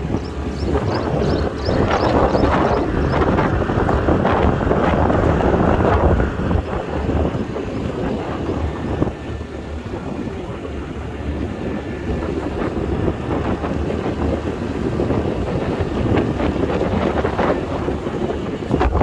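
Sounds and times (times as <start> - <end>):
scooter engine and tyres: 0.0 - 19.0
wind buffeting microphone: 0.0 - 19.0.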